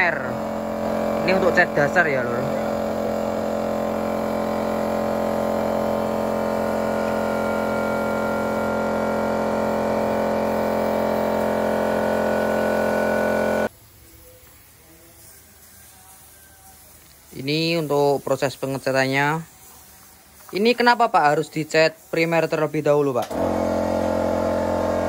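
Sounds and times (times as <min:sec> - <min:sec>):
air compressor humming: 0:00.0 - 0:25.0
spray gun spraying paint: 0:00.0 - 0:25.0.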